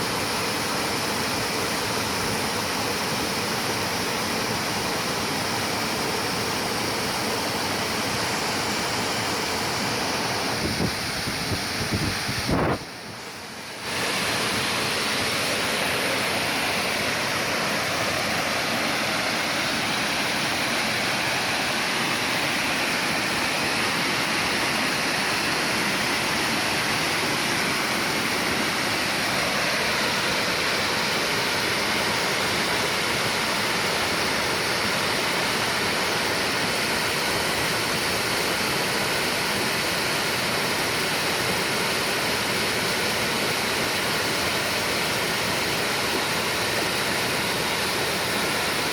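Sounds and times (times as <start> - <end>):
stream rushing over rocks: 0.0 - 48.9.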